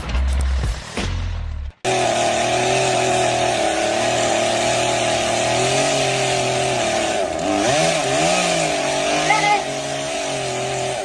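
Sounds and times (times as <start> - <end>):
engine running steadily: 1.9 - 11.0.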